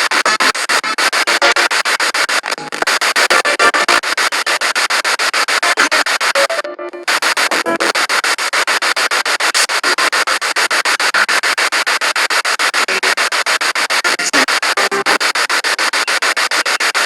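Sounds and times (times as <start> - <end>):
radio broadcast snatches: 0.0 - 17.0
radio static pulsing: 0.0 - 17.0.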